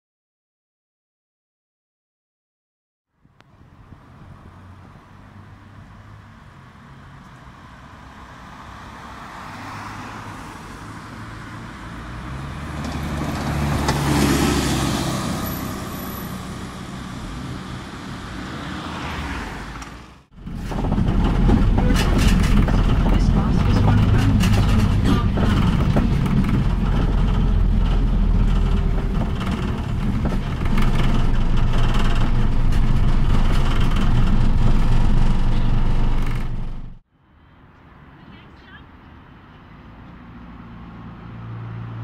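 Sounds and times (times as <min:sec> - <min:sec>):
bus engine from inside: 0:03.2 - 0:42.0
bus diesel engine passing: 0:03.3 - 0:42.0.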